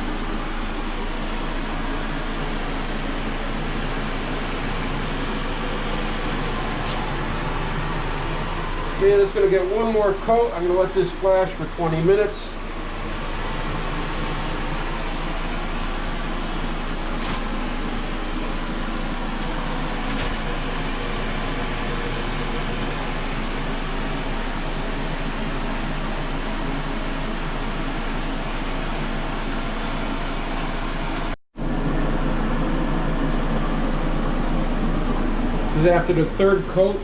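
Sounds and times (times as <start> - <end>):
blower air hiss and hum: 0.0 - 37.0.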